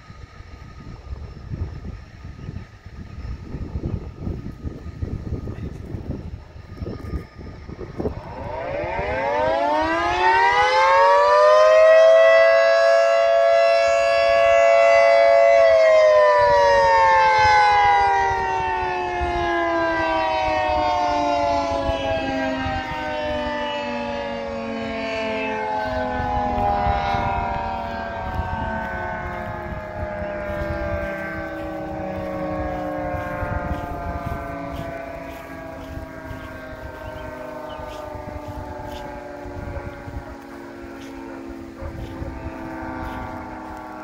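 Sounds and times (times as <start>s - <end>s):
two-tone siren winding up and down: 3.1s - 44.0s.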